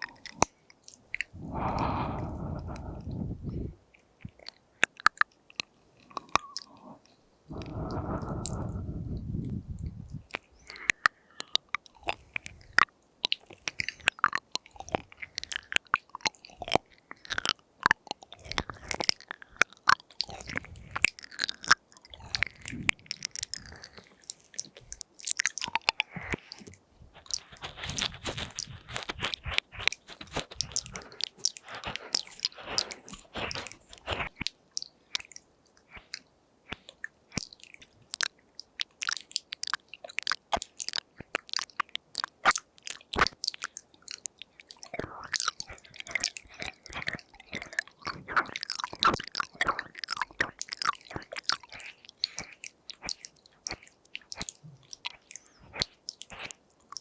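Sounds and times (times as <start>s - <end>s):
wet mouth clicks and lip smacks: 0.0s - 57.0s.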